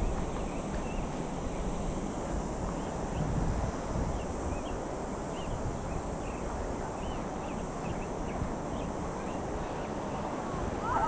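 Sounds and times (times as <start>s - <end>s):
rushing wind or water: 0.0s - 11.0s
steady high hiss: 0.0s - 11.0s.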